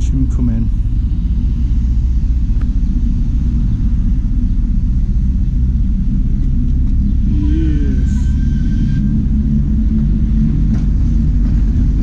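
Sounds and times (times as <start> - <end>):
locomotive diesel engine rumbling: 0.0 - 12.0.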